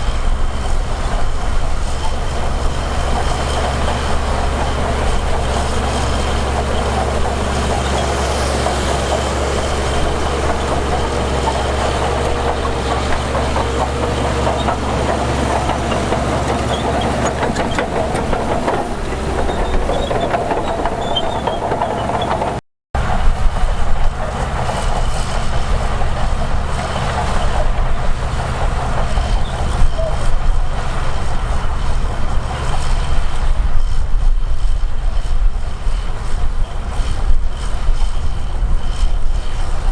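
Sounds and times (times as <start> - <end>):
heavy diesel machinery engine: 0.0 - 39.9.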